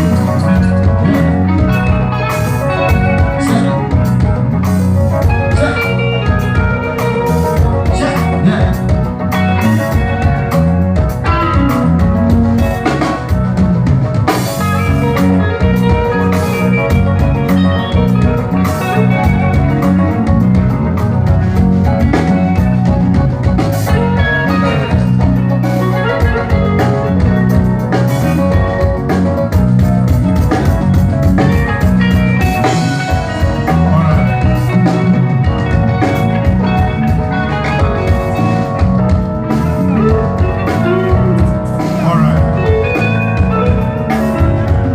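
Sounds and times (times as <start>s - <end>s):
loud music over sound system: 0.0s - 44.9s.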